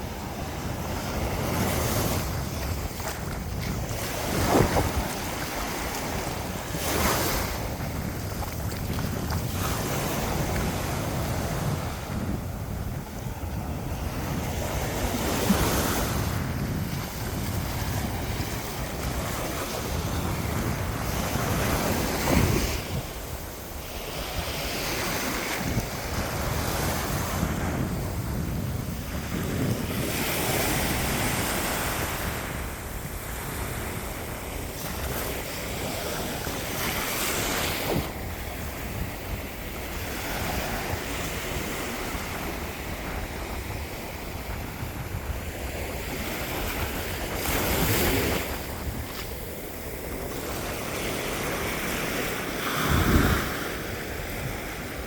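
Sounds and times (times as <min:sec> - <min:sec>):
ocean waves breaking on a beach: 0:00.0 - 0:55.0
wind rumbling on microphone: 0:00.0 - 0:55.0.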